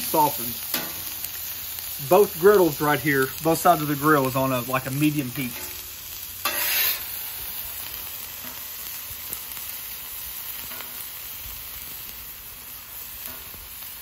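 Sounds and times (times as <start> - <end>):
onions sizzling on griddle: 0.0 - 14.0.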